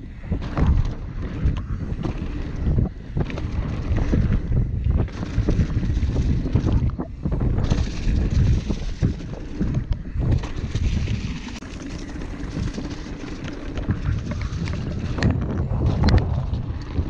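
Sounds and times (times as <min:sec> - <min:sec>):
bike tyres rolling on dirt: 0:00.0 - 0:17.0
wind buffeting microphone: 0:00.0 - 0:17.0
bike rattling and knocking: 0:00.3 - 0:17.0.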